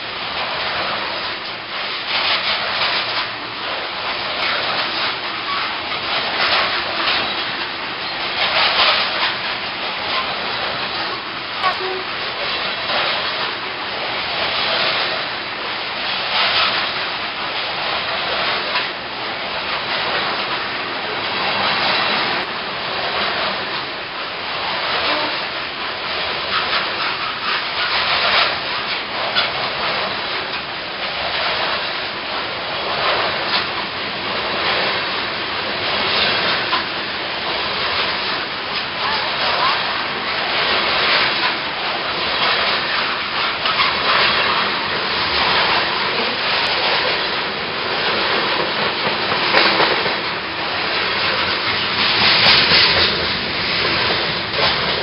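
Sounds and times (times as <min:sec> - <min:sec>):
train wheels grinding on rail: 0:00.0 - 0:55.0.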